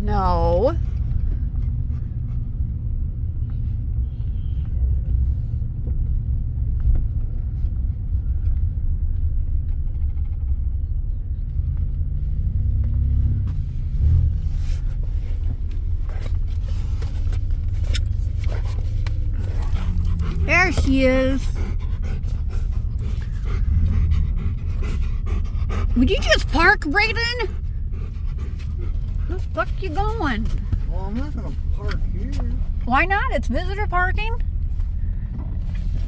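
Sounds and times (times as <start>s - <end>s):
car cabin rumble: 0.0s - 9.9s, 11.4s - 36.0s.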